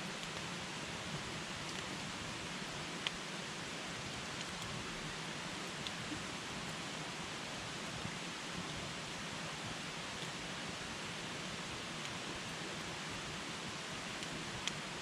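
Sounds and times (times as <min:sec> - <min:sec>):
campfire crackling: 0:00.1 - 0:15.0.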